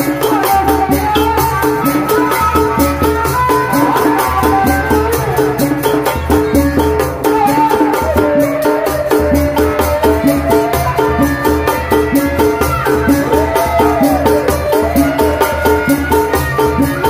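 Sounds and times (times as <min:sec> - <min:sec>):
fast steady drum beat: 0:00.0 - 0:17.0
rattling high percussion: 0:00.0 - 0:17.0
wavering melody line: 0:00.0 - 0:17.0.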